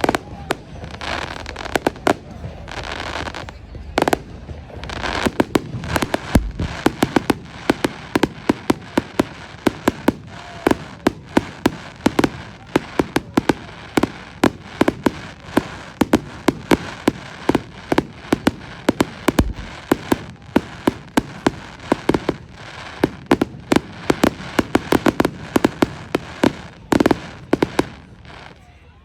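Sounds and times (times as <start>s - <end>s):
deep fireworks booms: 0.0s - 28.2s
fireworks bangs and crackles: 0.0s - 28.8s.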